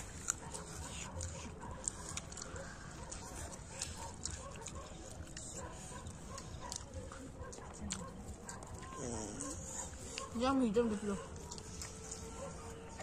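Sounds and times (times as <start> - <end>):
close-up chewing and lip-smacking: 0.0 - 13.0.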